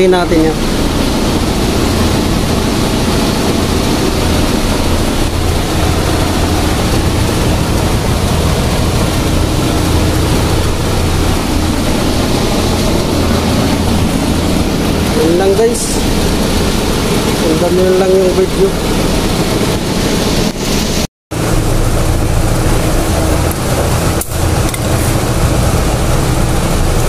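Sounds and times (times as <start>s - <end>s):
machine running hum and hiss: 0.0s - 27.0s.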